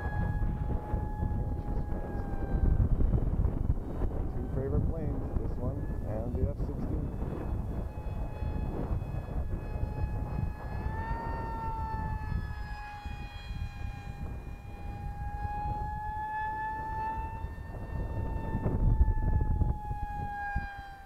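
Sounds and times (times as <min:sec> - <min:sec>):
model jet motor whining: 0:00.0 - 0:21.0
wind rumble on microphone: 0:00.0 - 0:21.0.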